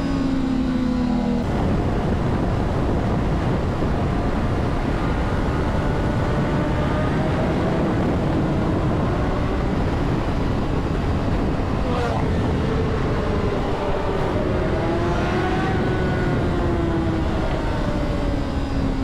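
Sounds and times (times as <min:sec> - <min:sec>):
faint motorcycle engine: 0:00.0 - 0:19.0
wind rushing over microphone: 0:00.0 - 0:19.0.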